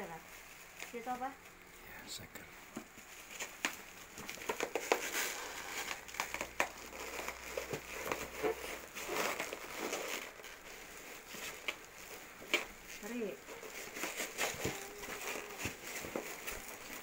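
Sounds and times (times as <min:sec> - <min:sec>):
bubble wrap crackling: 0:00.0 - 0:17.0.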